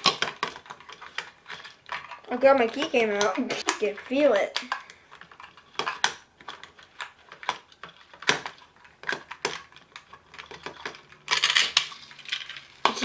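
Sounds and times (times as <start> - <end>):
toy handcuffs clicking and rattling: 0.0 - 13.0.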